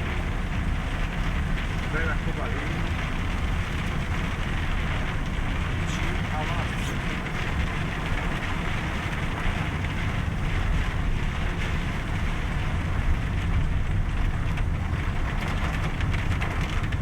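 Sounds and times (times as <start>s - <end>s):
hail pattering: 0.0s - 17.0s
steady rain: 0.0s - 17.0s.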